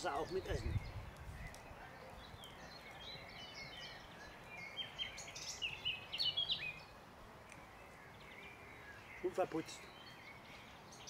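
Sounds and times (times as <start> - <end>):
faint outdoor background noise: 0.0 - 11.0
songbird chirping and whistling: 0.0 - 11.0.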